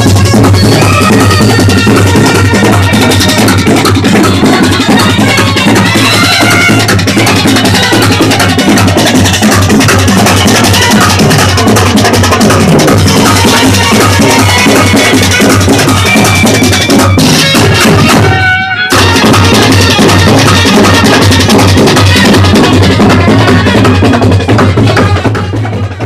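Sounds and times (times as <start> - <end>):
fast dense drumming: 0.0 - 26.0
procession band music: 0.0 - 26.0.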